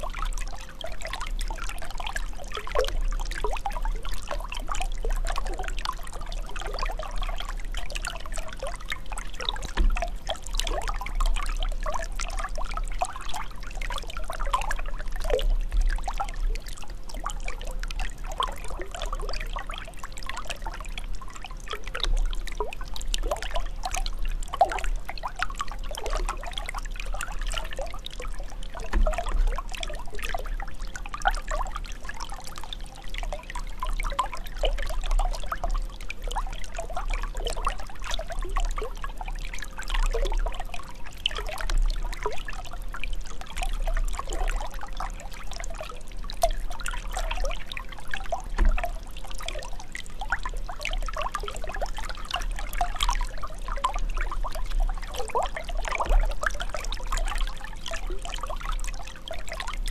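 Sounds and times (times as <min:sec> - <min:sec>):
water trickling and gurgling: 0:00.0 - 0:59.9.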